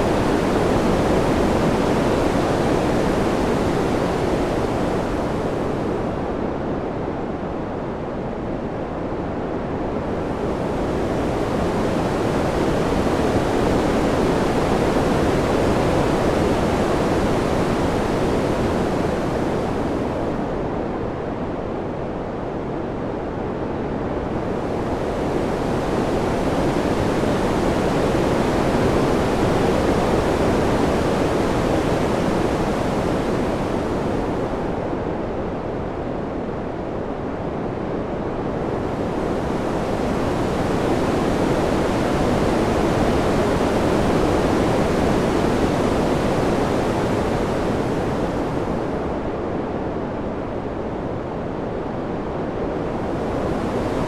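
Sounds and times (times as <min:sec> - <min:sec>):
wind blowing in surges: 0:00.0 - 0:54.0.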